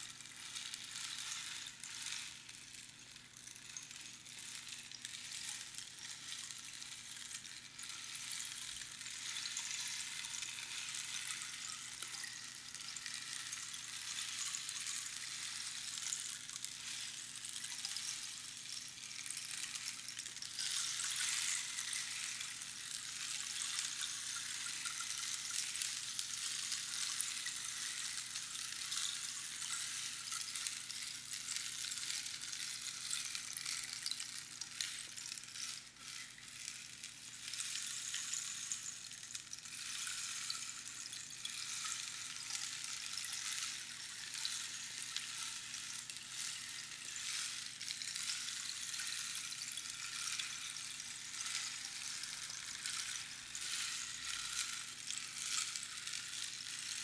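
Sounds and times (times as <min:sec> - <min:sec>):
rainstick trickling: 0:00.0 - 0:57.0.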